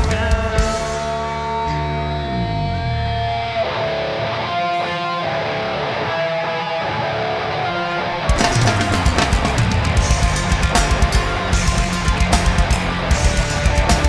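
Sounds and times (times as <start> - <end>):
electric guitars ringing chords: 0.0 - 14.0.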